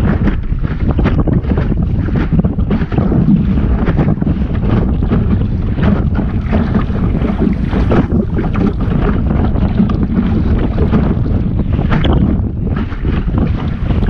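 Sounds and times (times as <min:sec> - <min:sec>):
steady low rumble: 0:00.0 - 0:14.0
water splashing against hull: 0:00.0 - 0:14.0
wind buffeting microphone: 0:00.0 - 0:14.0.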